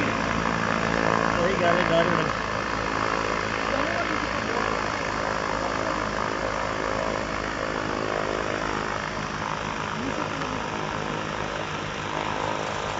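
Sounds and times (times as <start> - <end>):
diesel engine driving propeller: 0.0 - 12.9.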